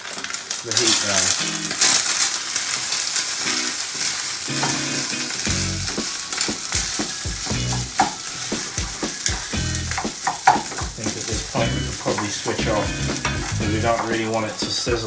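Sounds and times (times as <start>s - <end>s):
food sizzling in oil: 0.0s - 15.0s
utensil scraping a pan: 0.7s - 15.0s.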